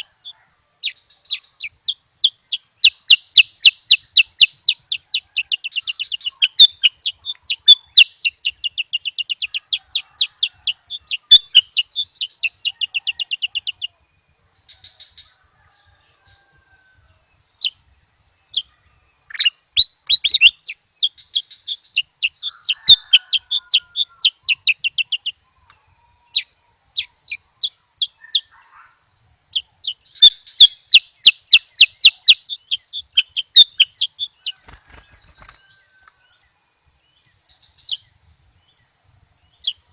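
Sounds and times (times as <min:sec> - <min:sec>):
bird chirping song: 0:00.0 - 0:39.9
steady high hiss: 0:00.0 - 0:39.9.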